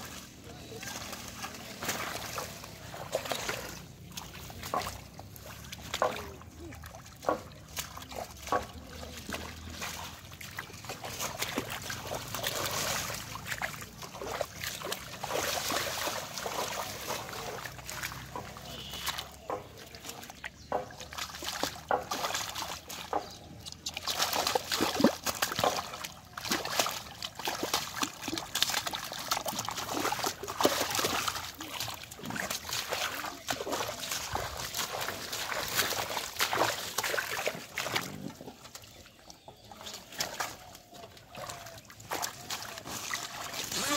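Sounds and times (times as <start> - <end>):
hands splashing in muddy water: 0.0 - 43.9.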